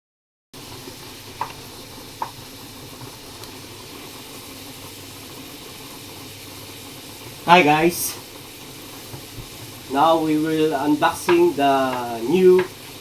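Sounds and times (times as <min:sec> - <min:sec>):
room noise hiss: 0:00.6 - 0:13.0.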